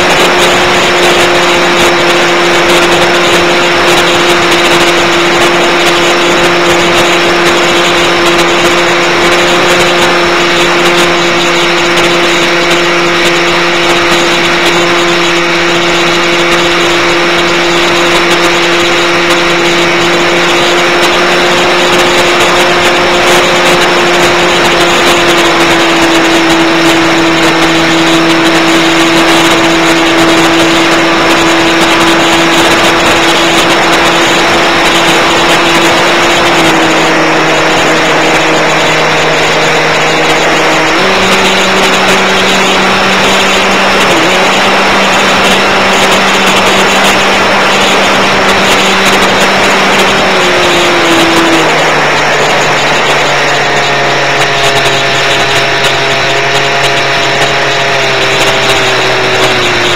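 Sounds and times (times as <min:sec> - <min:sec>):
electric motor and propeller: 0:00.0 - 0:59.9.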